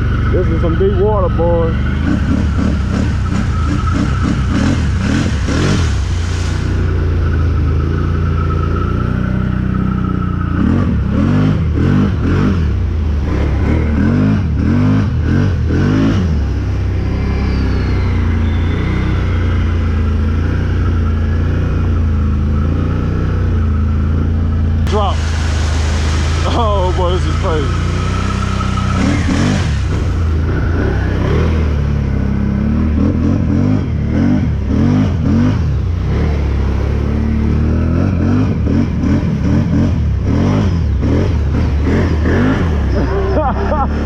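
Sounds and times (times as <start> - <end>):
engine revving through deep water: 0.0 - 44.0.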